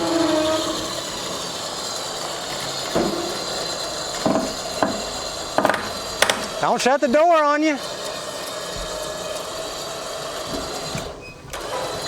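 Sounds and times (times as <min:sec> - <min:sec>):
electric winch running: 0:00.0 - 0:12.0
load creaking and clunking: 0:00.0 - 0:12.0.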